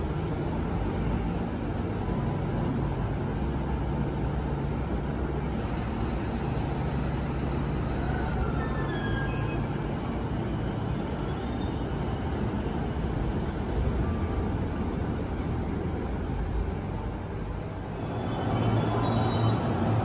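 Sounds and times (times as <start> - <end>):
electric train equipment humming: 0.0 - 20.0
traction motor rising whine: 0.0 - 20.0.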